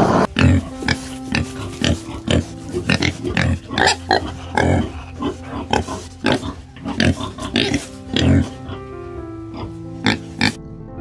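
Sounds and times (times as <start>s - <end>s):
animal grunting calls: 0.0s - 10.6s
steady low drone: 0.0s - 11.0s.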